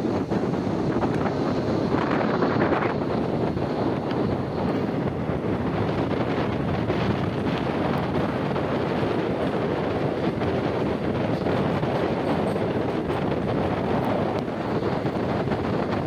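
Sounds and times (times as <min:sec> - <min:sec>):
train running noise: 0:00.0 - 0:16.0
wind rushing over microphone: 0:00.0 - 0:16.0.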